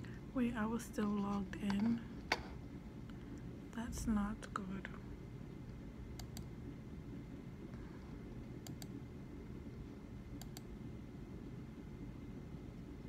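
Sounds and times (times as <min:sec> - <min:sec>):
faint low room hum: 0:00.0 - 0:13.0.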